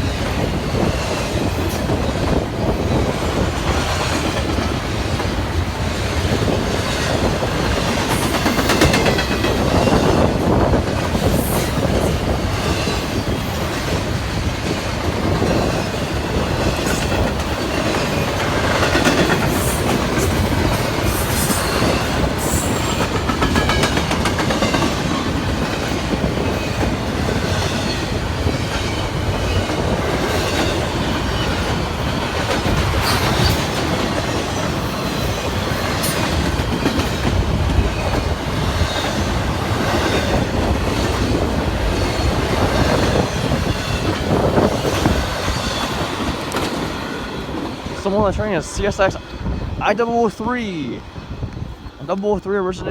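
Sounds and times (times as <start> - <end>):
train wheels clicking over rail joints: 0.0 - 48.2.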